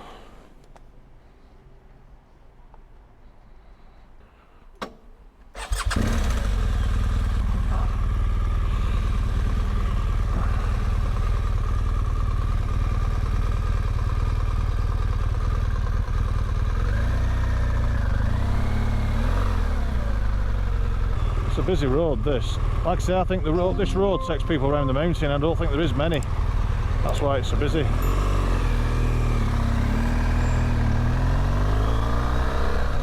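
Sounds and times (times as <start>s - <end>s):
motorcycle engine starting and running: 5.5s - 33.0s.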